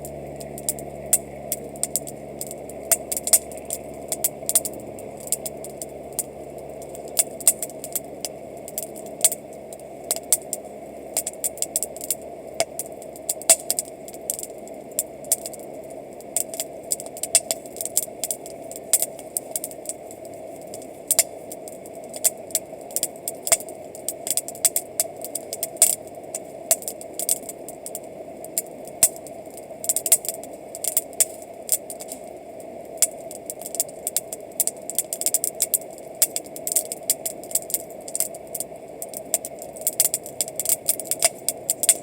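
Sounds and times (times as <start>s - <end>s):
campfire crackling and popping: 0.0s - 42.0s
steady background noise: 0.0s - 42.0s.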